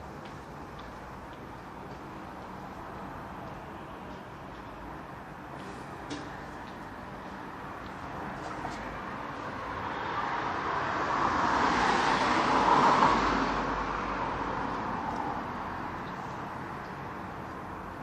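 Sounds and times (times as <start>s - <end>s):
road vehicle passing: 0.0s - 18.0s.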